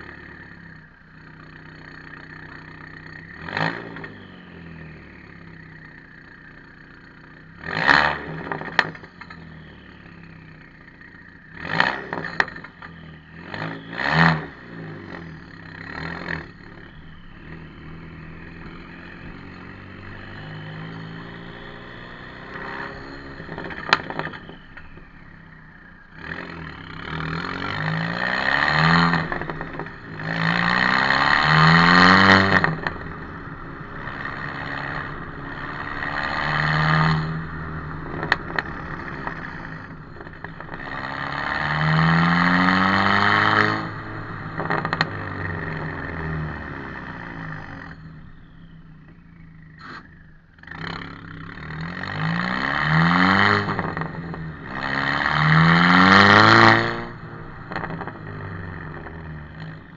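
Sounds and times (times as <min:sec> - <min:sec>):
car engine revving and accelerating: 0:02.3 - 0:05.4, 0:07.6 - 0:09.1, 0:11.5 - 0:24.7, 0:26.1 - 0:48.8, 0:49.8 - 0:59.9.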